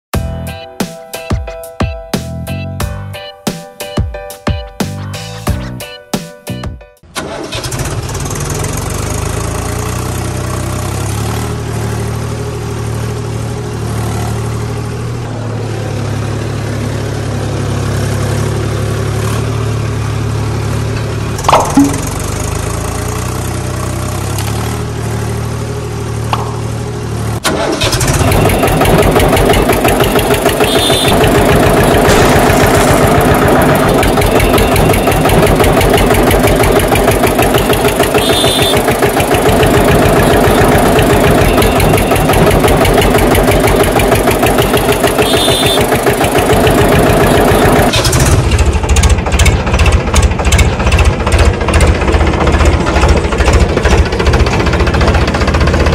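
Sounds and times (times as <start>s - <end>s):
tractor engine: 7.0s - 55.9s.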